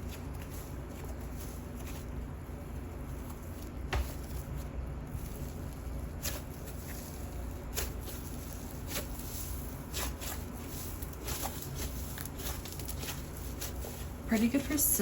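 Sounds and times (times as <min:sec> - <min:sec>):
slime crackling: 0:00.0 - 0:15.0.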